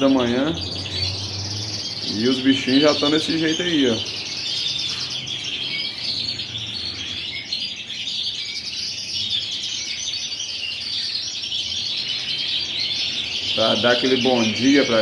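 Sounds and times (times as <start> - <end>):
canaries singing and chirping: 0.0 - 15.0.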